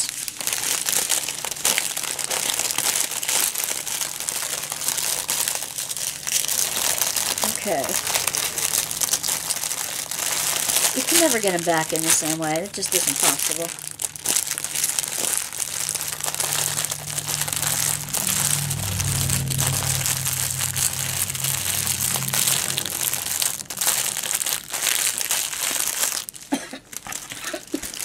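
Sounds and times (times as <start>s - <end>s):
plastic bags crinkling: 0.0s - 28.0s.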